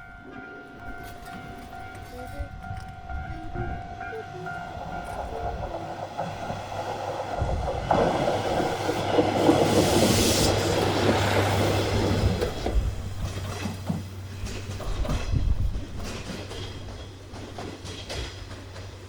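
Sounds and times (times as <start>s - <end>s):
diesel railcar engine drone: 0.0s - 19.0s
train wheels clattering on rails: 0.0s - 19.0s.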